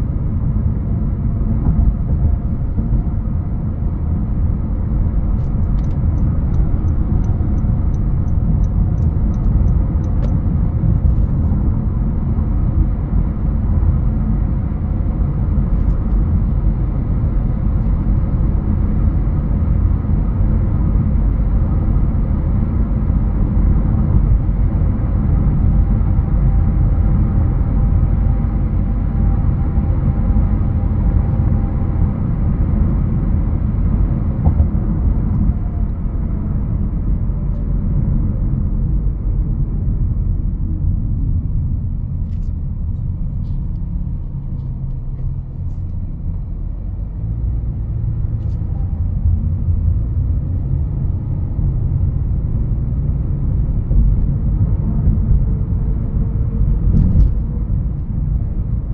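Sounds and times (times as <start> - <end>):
car road and engine rumble: 0.0 - 58.9.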